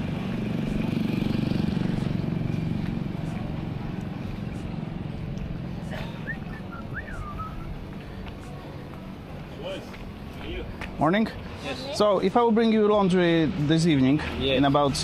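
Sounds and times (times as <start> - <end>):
motor vehicle passing: 0.0 - 12.1.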